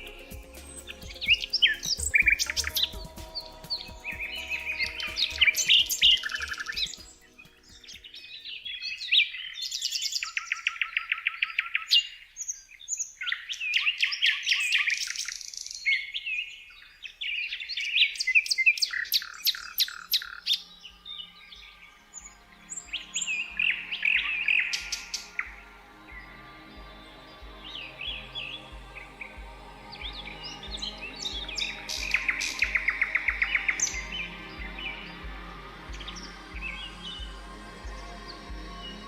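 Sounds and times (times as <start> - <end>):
songbirds singing: 0.0 - 39.0.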